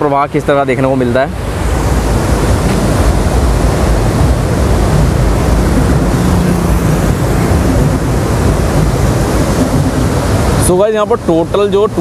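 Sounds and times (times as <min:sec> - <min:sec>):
turbulent floodwater rushing: 0:00.0 - 0:12.0.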